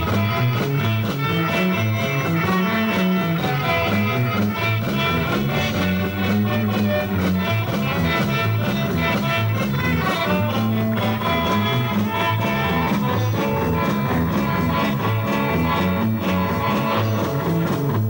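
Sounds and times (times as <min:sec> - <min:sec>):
acoustic guitar strumming: 0:00.0 - 0:18.0
bass line: 0:00.0 - 0:18.0
drum beat: 0:00.0 - 0:18.0.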